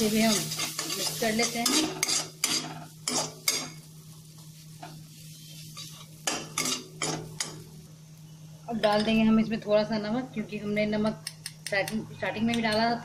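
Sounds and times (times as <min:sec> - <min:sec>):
faint sizzling: 0:00.0 - 0:13.0.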